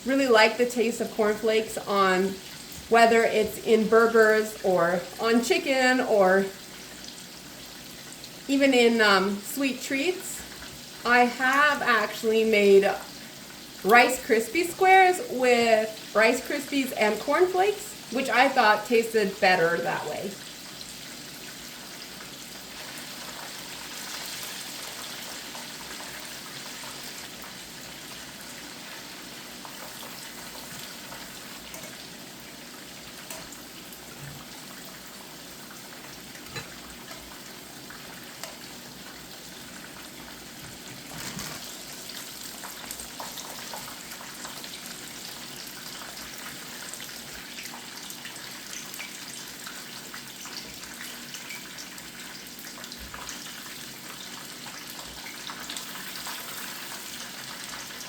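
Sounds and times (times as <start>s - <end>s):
food deep-frying in hot oil: 0.0s - 58.0s.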